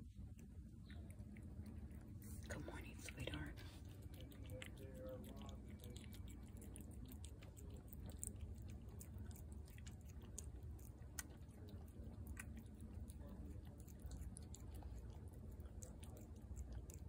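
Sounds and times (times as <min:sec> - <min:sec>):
cat chewing food: 0:00.0 - 0:17.0.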